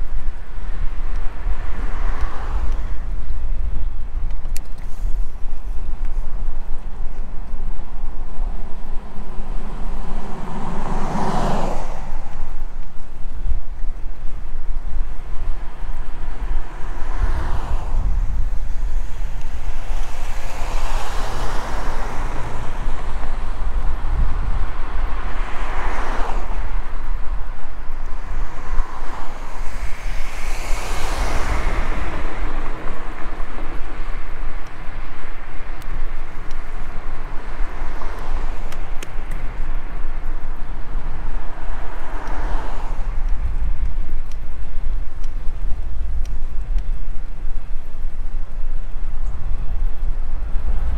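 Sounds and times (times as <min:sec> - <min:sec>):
vehicles passing: 0:00.0 - 0:50.9
wind rumble on microphone: 0:00.0 - 0:50.9.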